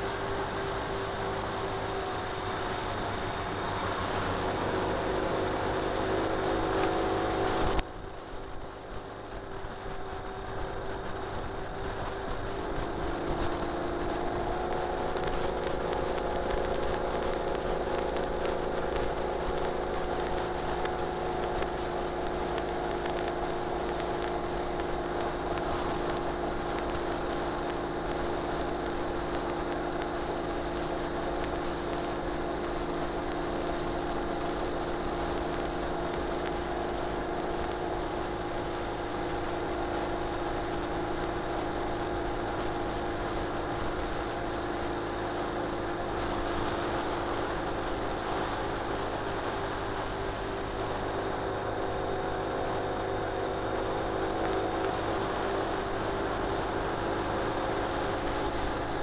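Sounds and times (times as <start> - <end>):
motorcycle engine working hard: 0.0 - 59.0.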